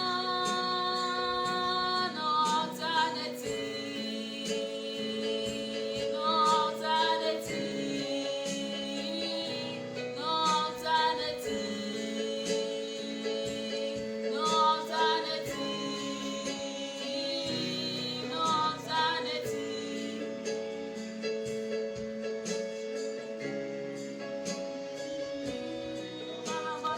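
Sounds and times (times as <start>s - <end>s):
woman singing with vibrato: 0.0s - 21.0s, 25.7s - 26.9s
held chords: 0.0s - 26.9s.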